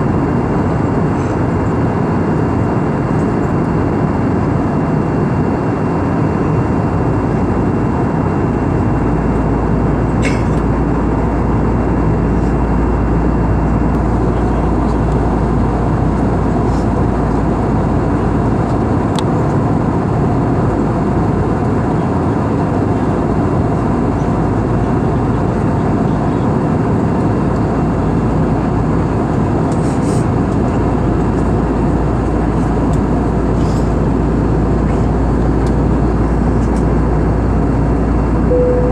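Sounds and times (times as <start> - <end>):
low engine hum: 0.0 - 22.3, 23.0 - 38.9.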